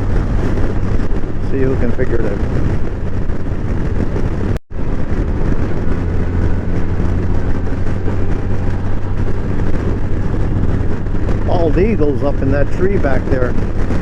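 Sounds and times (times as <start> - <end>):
motorcycle engine drone: 0.0 - 14.0
wind rush: 0.0 - 14.0.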